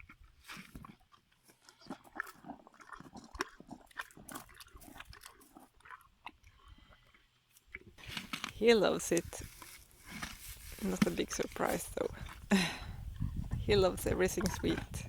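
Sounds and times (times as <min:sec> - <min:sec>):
donkey chewing watermelon: 0:00.0 - 0:15.0.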